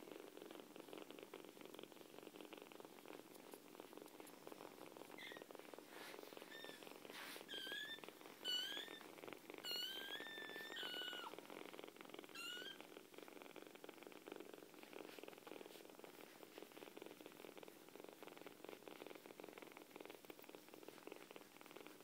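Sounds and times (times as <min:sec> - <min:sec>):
kittens purring: 0:00.0 - 0:22.0.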